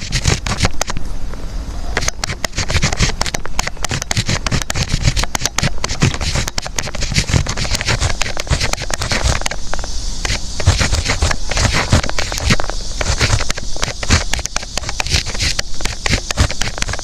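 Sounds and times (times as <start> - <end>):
scratchy rustle: 0.0 - 1.0, 2.0 - 17.0
sharp clicks: 0.0 - 1.0, 2.0 - 17.0.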